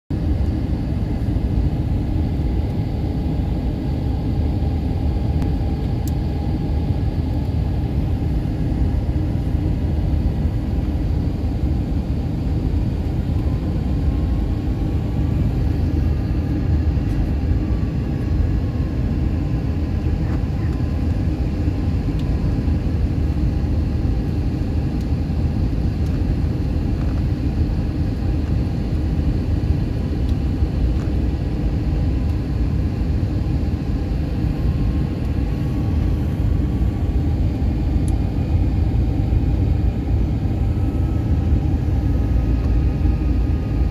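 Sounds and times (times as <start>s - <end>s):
faint engine whine: 0.1s - 43.9s
jet engine and airflow rumble: 0.1s - 43.9s.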